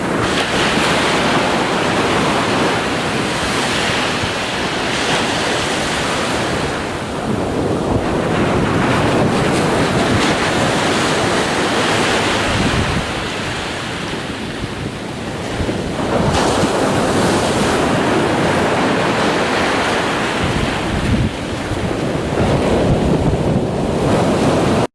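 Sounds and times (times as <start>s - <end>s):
ocean waves breaking: 0.0s - 24.9s.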